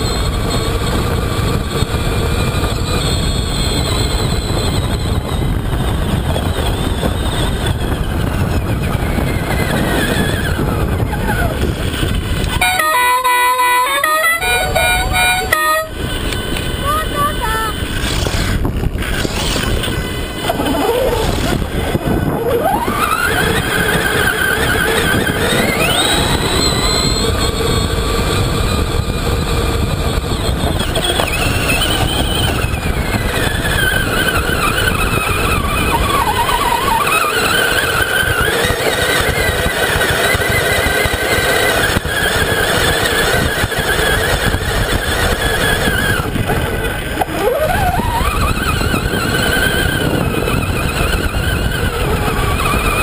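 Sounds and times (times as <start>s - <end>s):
electric motor whining: 0.0s - 53.0s
tyres churning through sand: 0.0s - 53.0s.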